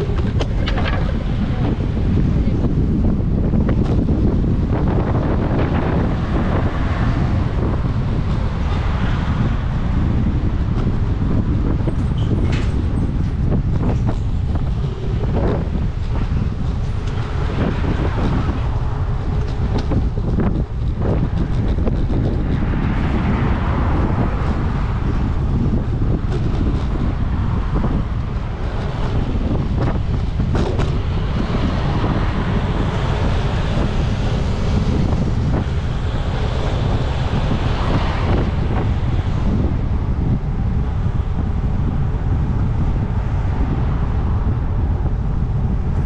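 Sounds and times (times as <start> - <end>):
road traffic passing: 0.0 - 46.0
wind buffeting microphone: 0.0 - 46.0.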